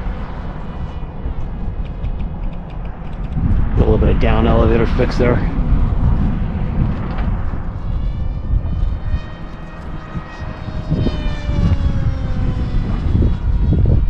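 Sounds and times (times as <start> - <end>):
electric propeller whining: 0.0 - 14.0
wind buffeting microphone: 0.0 - 14.0.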